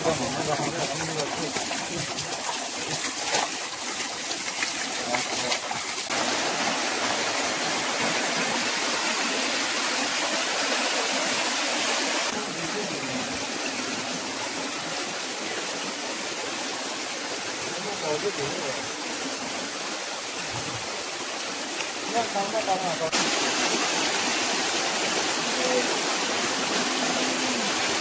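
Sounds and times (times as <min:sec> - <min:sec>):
small waterfall: 0:00.0 - 0:28.0
softer flowing stream: 0:00.0 - 0:28.0
water splashing over rocks: 0:00.0 - 0:28.0.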